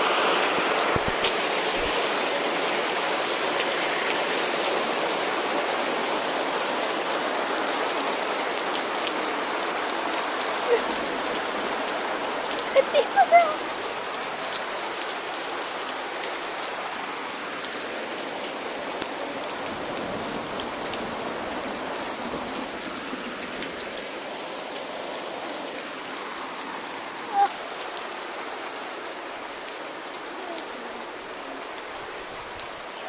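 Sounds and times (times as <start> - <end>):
heavy rain on wet pavement: 0.0 - 33.0.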